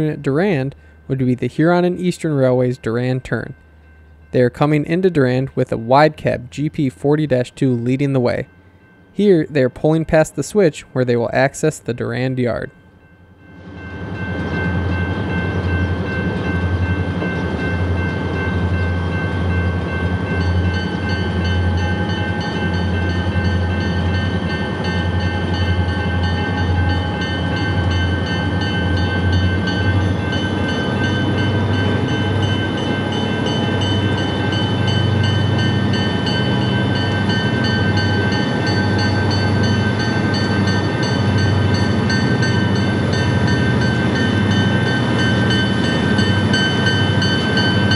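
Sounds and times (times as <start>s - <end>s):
diesel locomotive engine rumble: 0.0s - 47.9s.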